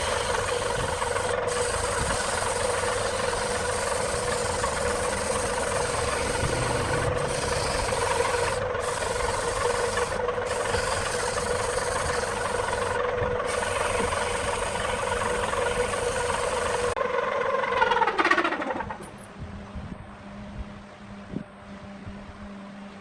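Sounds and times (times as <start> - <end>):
lathe motor running: 0.0 - 19.2.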